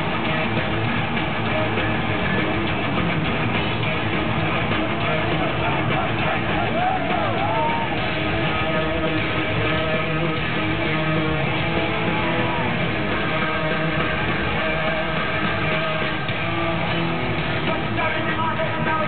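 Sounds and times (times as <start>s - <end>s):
live heavy metal with electric guitars: 0.0s - 19.0s.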